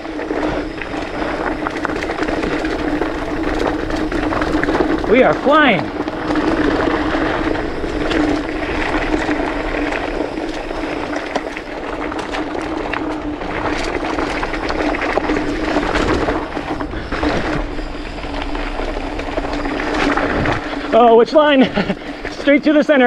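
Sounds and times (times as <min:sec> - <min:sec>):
bike rattling and knocking: 0:00.0 - 0:23.0
bike tyres roaring on trail: 0:00.0 - 0:23.0.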